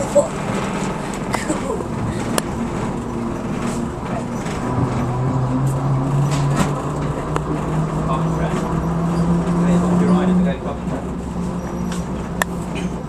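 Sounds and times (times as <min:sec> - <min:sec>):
train engine rumble: 0:00.0 - 0:13.0.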